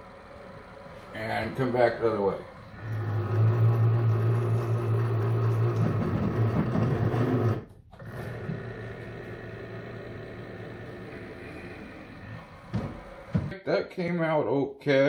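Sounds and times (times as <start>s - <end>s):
motor humming: 0.0s - 13.5s.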